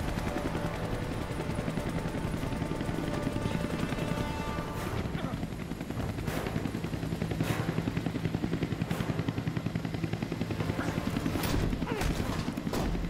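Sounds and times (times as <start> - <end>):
helicopter rotor beating: 0.0 - 13.0.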